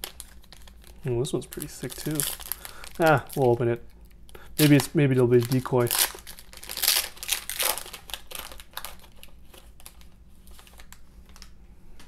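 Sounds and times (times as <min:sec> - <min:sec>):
foil wrapper crinkling: 0:00.0 - 0:11.6.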